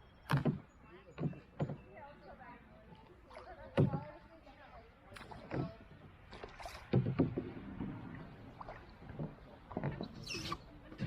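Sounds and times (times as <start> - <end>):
paddle splashes: 0.2 - 11.0
paddles knocking against canoe: 0.2 - 11.0.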